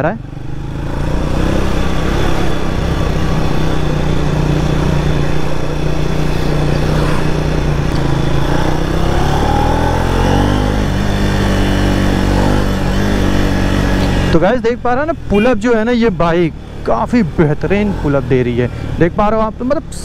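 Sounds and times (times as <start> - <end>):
motorcycle engine running: 0.0 - 20.0
road noise: 0.0 - 20.0
wind: 0.0 - 20.0.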